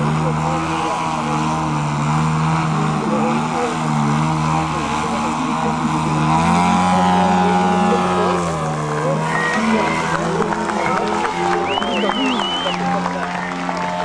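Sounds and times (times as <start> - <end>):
propeller plane engine: 0.0 - 14.0.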